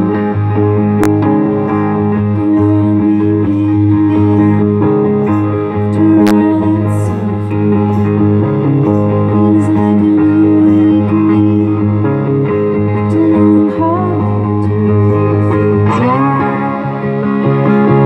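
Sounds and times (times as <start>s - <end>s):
electric guitar solo: 0.0s - 18.0s.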